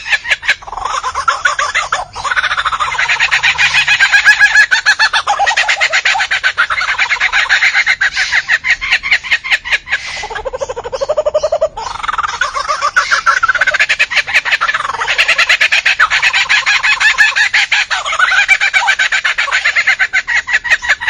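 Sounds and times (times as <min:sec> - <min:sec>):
birds calling rapid notes: 0:00.0 - 0:21.0.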